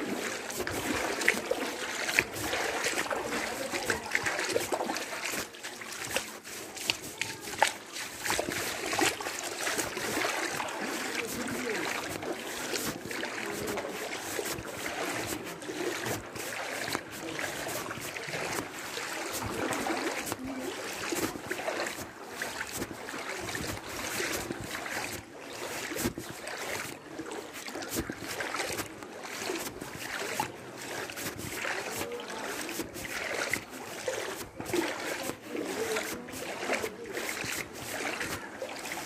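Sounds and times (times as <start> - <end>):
floodwater sloshing and splashing: 0.0 - 39.0.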